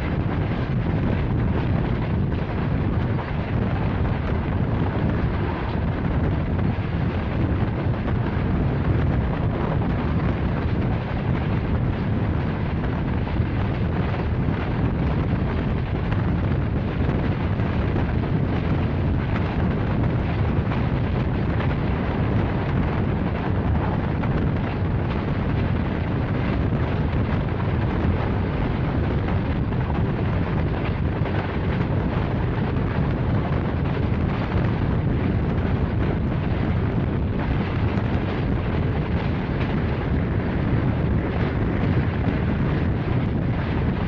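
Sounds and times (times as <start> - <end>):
passenger train rumbling: 0.0 - 44.0.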